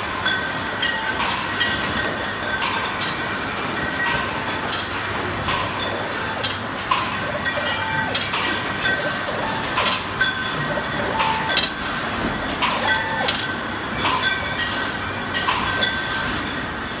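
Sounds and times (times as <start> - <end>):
machine noise: 0.0 - 17.0
glass bottles clinking: 0.2 - 17.0.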